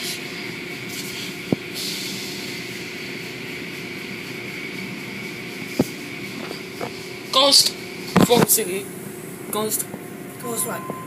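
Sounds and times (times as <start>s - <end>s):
high machine whine: 0.0s - 11.0s.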